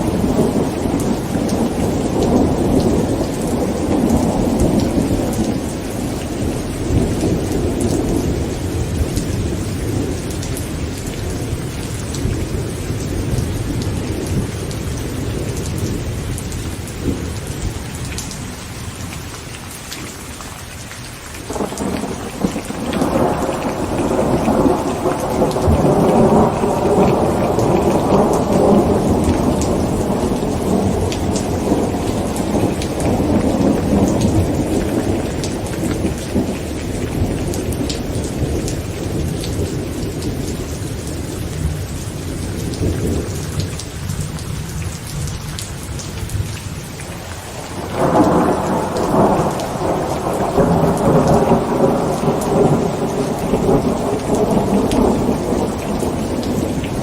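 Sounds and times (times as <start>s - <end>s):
rolling thunder: 0.0s - 17.9s, 21.5s - 43.8s, 47.4s - 57.0s
heavy rain on a tent: 0.0s - 57.0s.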